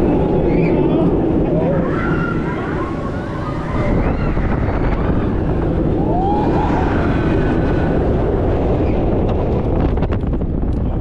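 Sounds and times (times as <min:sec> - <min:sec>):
heavy wind on microphone: 0:00.0 - 0:11.0
roller coaster running on track: 0:00.0 - 0:11.0.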